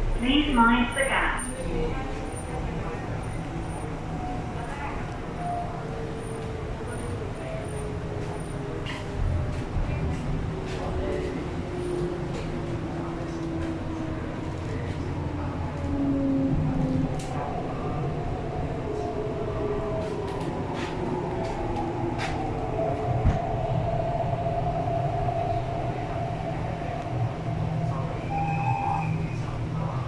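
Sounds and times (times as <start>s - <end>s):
train low rumble: 0.0s - 30.0s.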